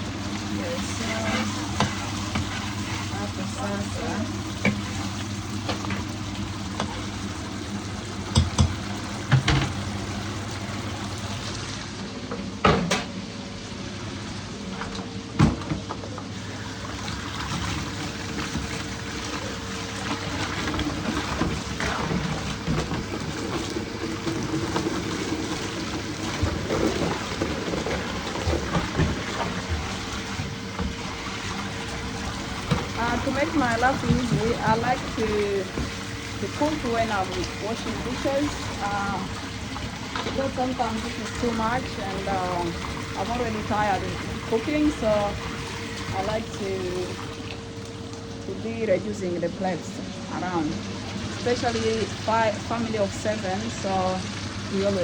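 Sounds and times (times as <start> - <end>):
tap water running into sink: 0.0 - 13.0, 14.7 - 48.3.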